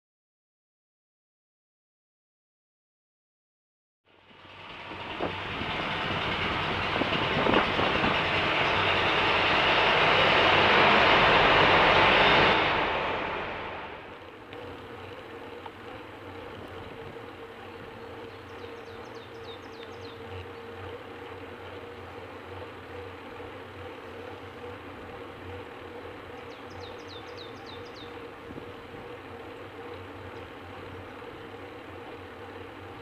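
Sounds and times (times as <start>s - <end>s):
wind and road noise rumble: 4.1s - 33.0s.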